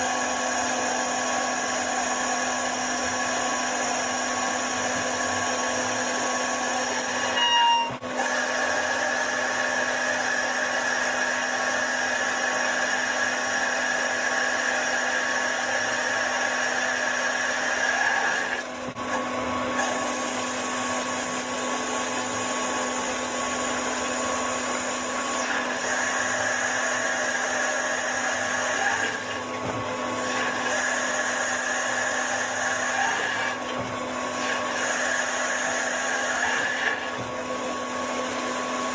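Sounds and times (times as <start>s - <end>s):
lathe machine whine and hiss: 0.0s - 38.9s.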